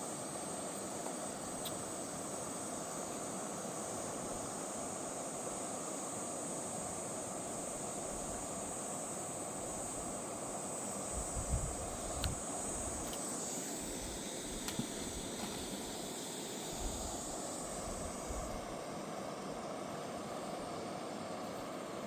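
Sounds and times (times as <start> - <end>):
faint high hiss: 0.0 - 22.0.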